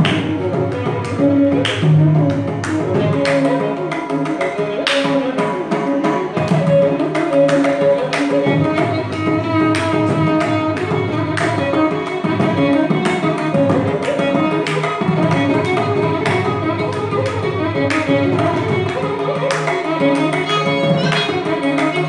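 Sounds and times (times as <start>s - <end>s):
mridangam drum strokes: 0.0s - 22.0s
tanpura drone: 0.0s - 22.0s
violin melody: 0.0s - 22.0s.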